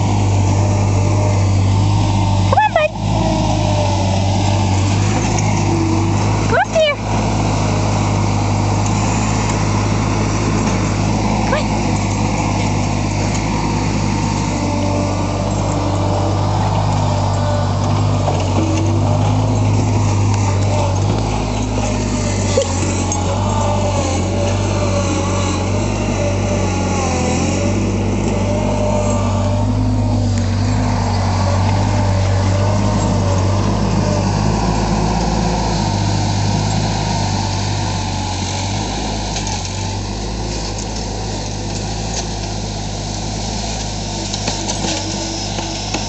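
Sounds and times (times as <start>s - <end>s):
small engine running: 0.0s - 46.0s.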